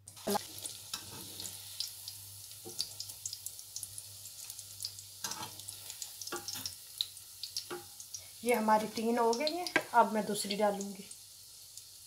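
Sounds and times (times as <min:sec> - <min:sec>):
patties sizzling in oil: 0:00.0 - 0:12.0.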